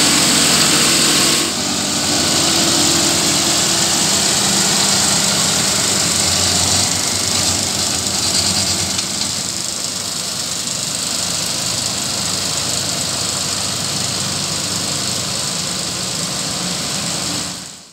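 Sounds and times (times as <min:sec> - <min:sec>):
tractor engine running: 0:00.0 - 0:17.7
mechanical hiss: 0:00.0 - 0:17.9.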